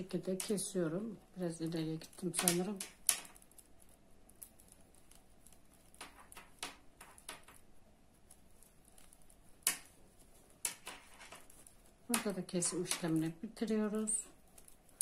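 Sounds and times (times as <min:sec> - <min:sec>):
knitting needles clicking: 0:00.0 - 0:15.0.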